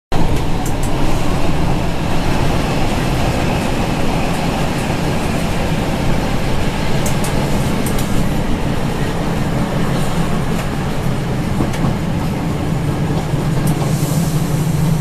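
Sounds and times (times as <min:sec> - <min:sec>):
diesel railcar engine drone: 0:00.1 - 0:15.0.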